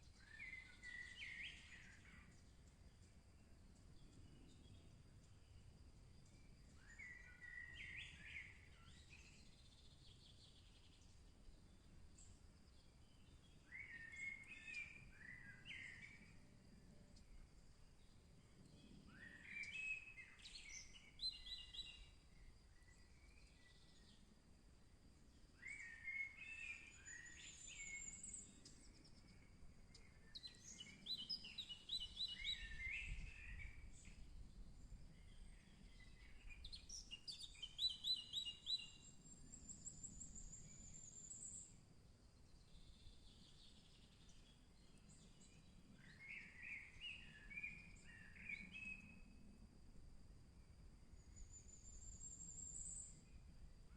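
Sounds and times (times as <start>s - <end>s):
bird singing song phrase: 0.0s - 16.5s, 18.0s - 24.3s, 25.3s - 41.8s, 42.4s - 49.4s, 51.2s - 53.5s
faint high-pitched hum: 0.0s - 53.9s.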